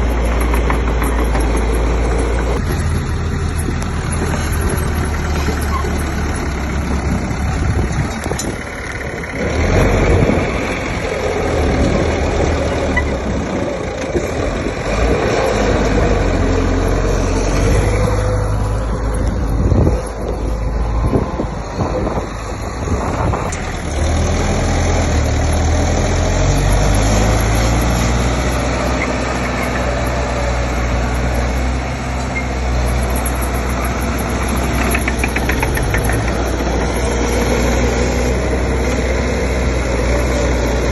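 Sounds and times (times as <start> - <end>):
construction machine diesel engine: 0.0 - 40.9.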